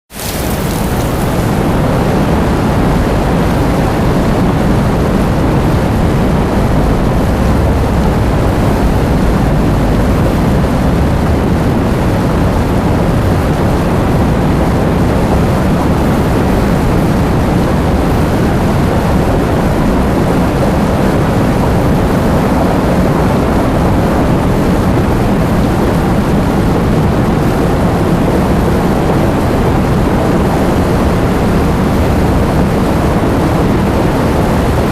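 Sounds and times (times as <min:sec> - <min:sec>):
heavy rain with wind: 0:00.0 - 0:34.9.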